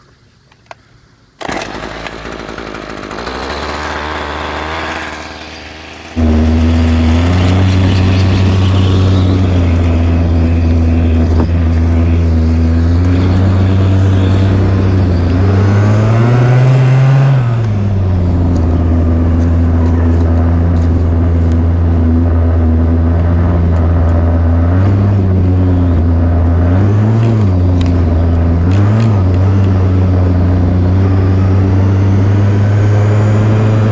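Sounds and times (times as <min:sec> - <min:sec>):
small two-stroke engine revving: 0:01.4 - 0:33.9.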